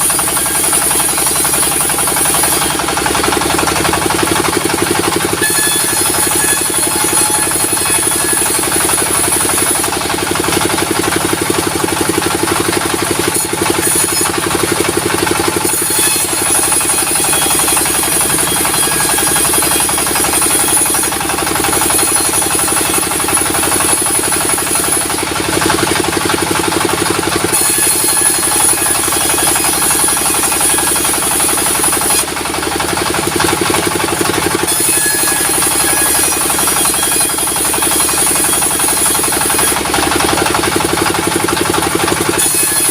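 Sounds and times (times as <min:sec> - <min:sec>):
diesel engine knocking: 0:00.0 - 0:42.9.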